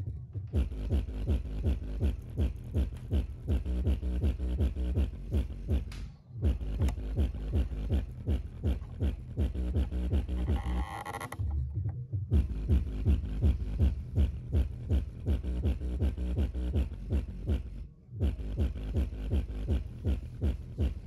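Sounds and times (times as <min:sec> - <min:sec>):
deep bass notes from subwoofer: 0:00.0 - 0:21.0.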